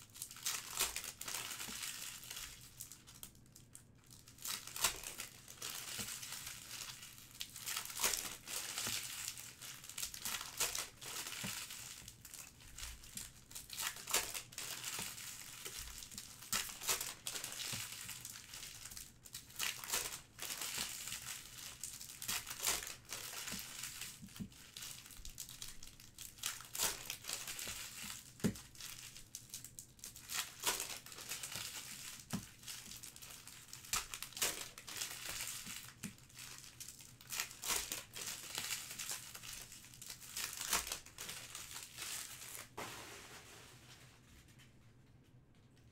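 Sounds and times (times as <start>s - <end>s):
plastic wrappers ripping: 0.0s - 43.0s
plastic wrappers crinkling: 0.0s - 44.7s.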